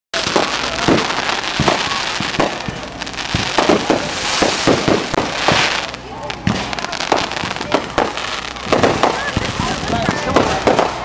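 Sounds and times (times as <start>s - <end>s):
fireworks bangs and pops: 0.1s - 11.0s
crackling hiss of fireworks: 0.2s - 11.0s.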